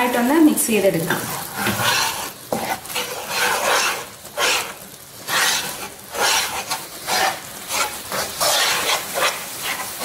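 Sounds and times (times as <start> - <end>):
spoon scraping and mixing dough: 1.1 - 10.0.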